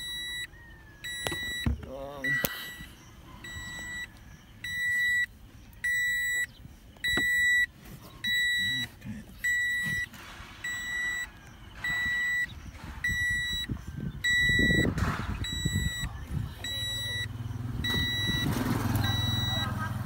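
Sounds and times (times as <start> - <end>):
car warning buzzer beeping: 0.0 - 20.0.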